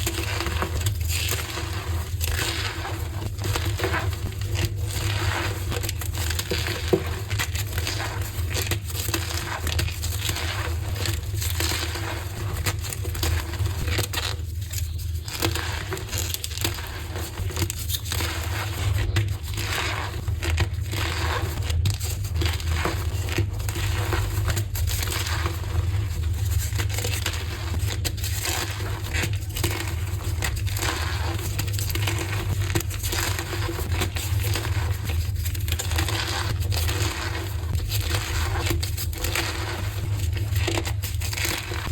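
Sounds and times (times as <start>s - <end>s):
chalk crunching and crumbling: 0.0s - 41.9s.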